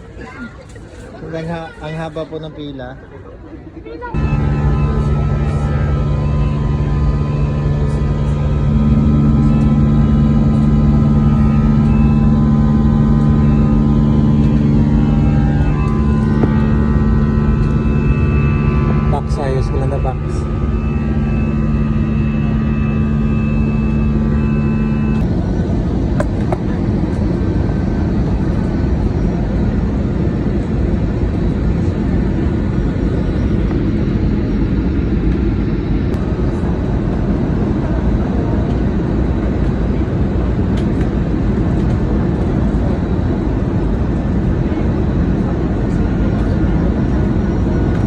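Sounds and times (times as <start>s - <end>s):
droning hum: 0.0s - 48.0s
loud low rumble: 4.1s - 48.0s.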